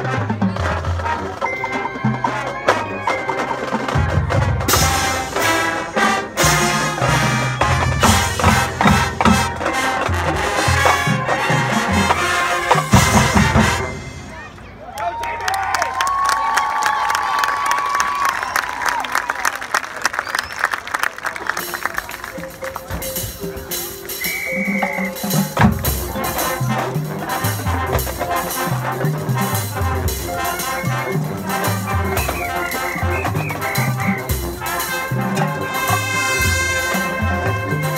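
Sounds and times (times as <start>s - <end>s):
marching band playing: 0.0s - 14.9s, 19.7s - 37.9s.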